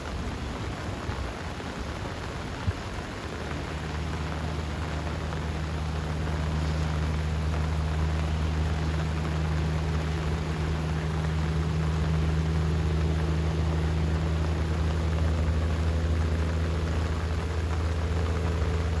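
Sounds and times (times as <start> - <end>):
constant low hum: 0.0 - 19.0
steady rain hissing: 0.0 - 19.0.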